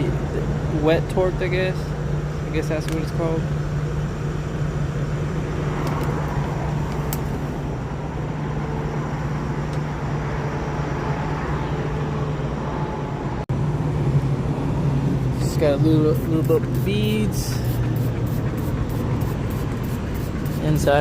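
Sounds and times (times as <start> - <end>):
idling motor hum: 0.0 - 21.0
roadside traffic: 0.0 - 21.0.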